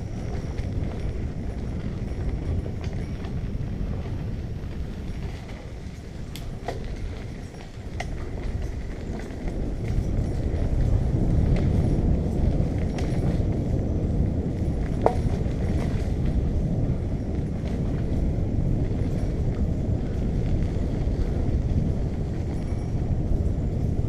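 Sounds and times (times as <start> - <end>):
bicycle tyres on path: 0.0 - 24.0
small rattles: 0.0 - 24.0
wind on microphone: 0.0 - 24.0.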